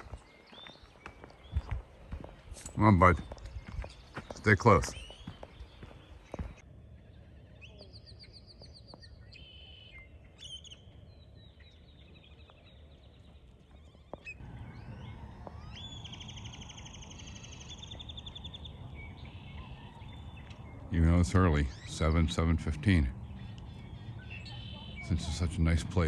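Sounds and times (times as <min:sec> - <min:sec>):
songbirds trilling: 0:00.0 - 0:26.0.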